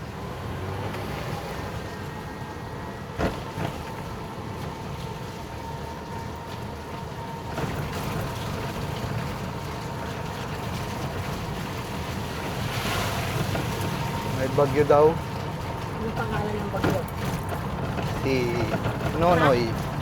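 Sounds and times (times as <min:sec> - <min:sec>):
tyre and traffic rumble: 0:00.0 - 0:20.0.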